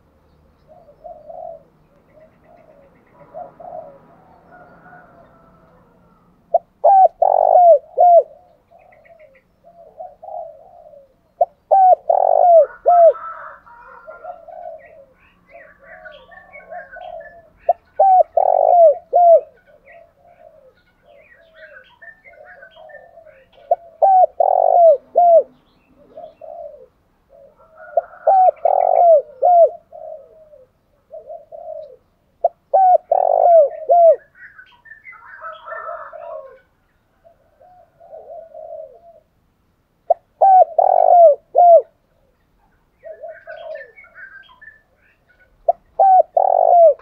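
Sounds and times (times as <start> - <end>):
dove cooing: 0.0 - 39.4, 40.0 - 47.0.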